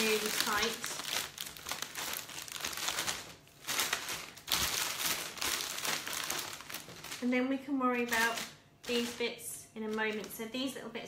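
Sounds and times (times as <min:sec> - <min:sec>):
cellophane crinkling: 0:00.0 - 0:10.6.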